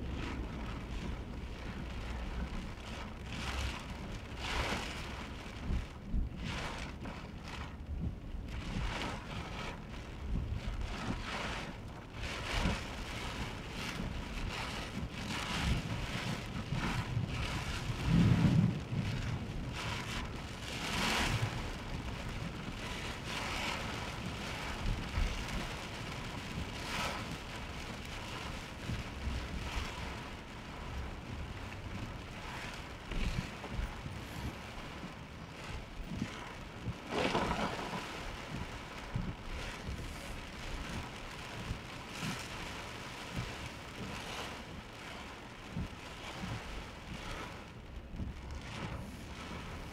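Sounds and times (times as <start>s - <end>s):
heavy rain on a car: 0.0s - 49.9s
tyre noise on wet road: 0.0s - 49.9s.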